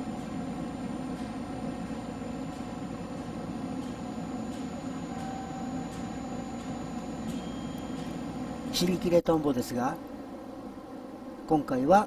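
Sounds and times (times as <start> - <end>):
train car equipment hum: 0.0 - 11.6.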